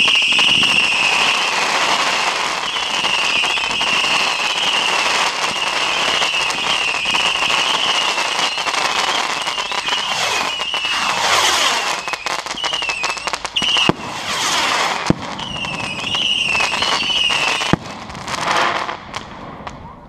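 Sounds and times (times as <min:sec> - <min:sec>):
firework whistle: 0:00.0 - 0:19.0
firework bangs: 0:00.0 - 0:20.0
fireworks crackling: 0:00.0 - 0:20.0.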